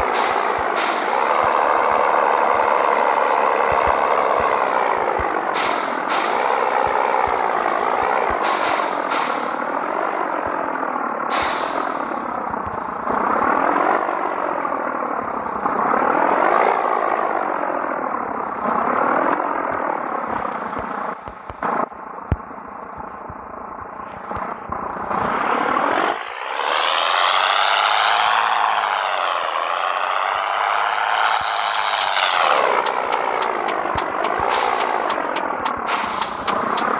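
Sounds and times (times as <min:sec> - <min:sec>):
truck diesel engine under load: 0:00.0 - 0:21.8, 0:23.5 - 0:36.9.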